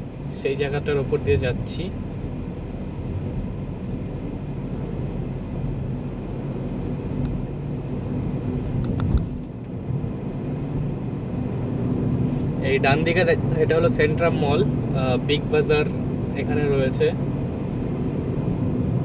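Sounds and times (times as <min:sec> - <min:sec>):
road noise: 0:00.0 - 0:19.0
vehicle engine: 0:00.0 - 0:19.0.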